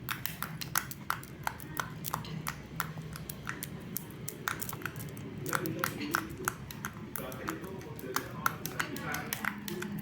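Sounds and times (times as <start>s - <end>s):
sharp clicks and pops: 0.0s - 10.0s.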